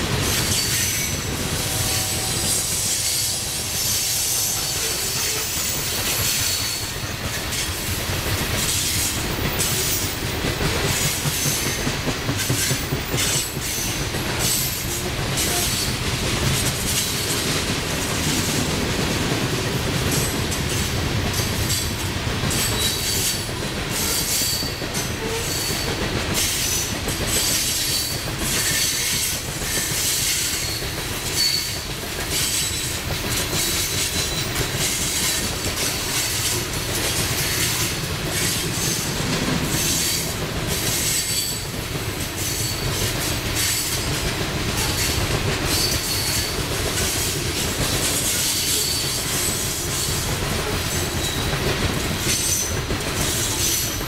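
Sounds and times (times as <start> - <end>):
train wheels clicking over rail joints: 0.0 - 54.0.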